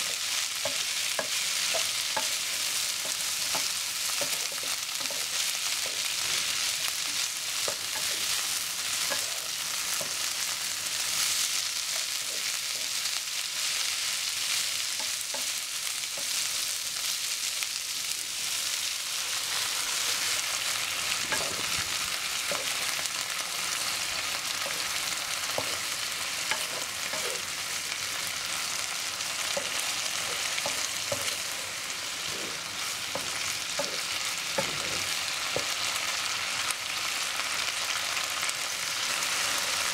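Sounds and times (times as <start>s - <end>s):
beans sizzling in a pan: 0.0s - 39.9s.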